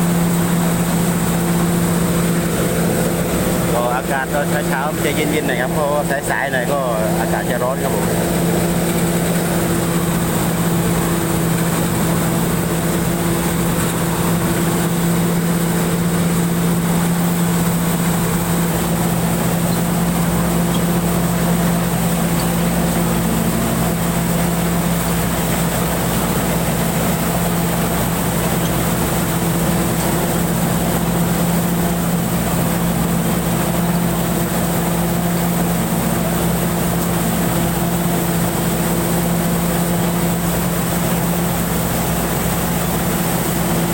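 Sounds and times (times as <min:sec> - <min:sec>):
harvester engine hum: 0:00.0 - 0:43.9.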